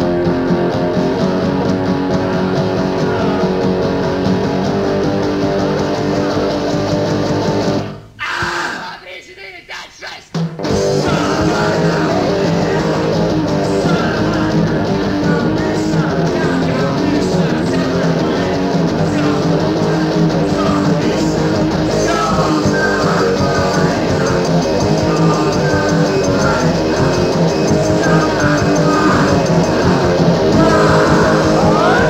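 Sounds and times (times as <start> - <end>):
rock band playing: 0.0 - 8.2, 10.3 - 32.0.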